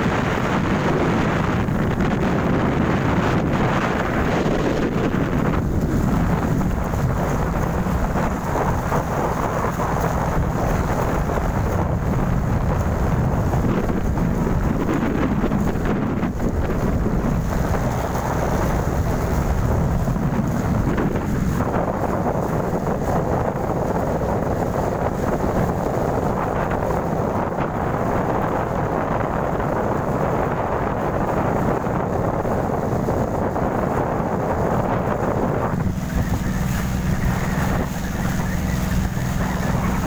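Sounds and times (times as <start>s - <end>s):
boat engine drone: 0.0s - 40.0s
wind buffeting microphone: 0.0s - 40.0s.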